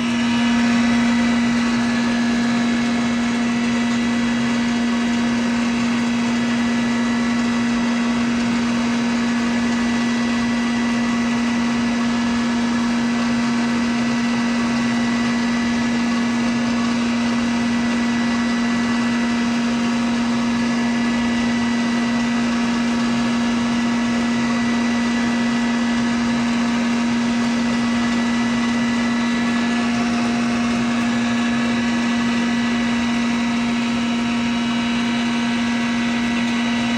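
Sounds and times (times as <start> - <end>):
grinding machine whirring: 0.0 - 36.9
strong steady hum: 0.0 - 36.9.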